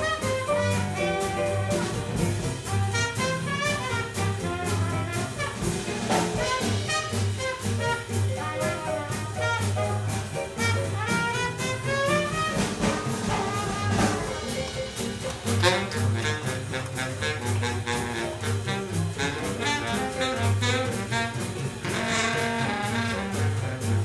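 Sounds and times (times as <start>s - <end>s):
jazz band playing: 0.0s - 24.0s
trumpet melody: 0.0s - 24.0s.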